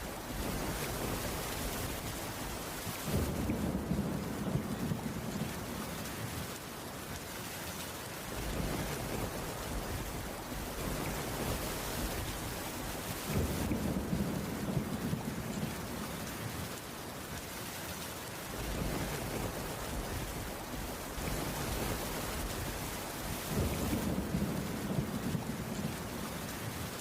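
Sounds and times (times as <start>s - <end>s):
heavy rain on wooden roof: 0.0s - 27.0s.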